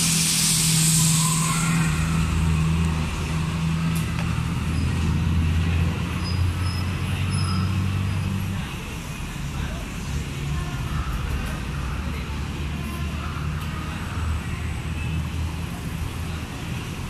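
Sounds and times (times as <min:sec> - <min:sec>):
idling engine hum: 0:00.0 - 0:17.0.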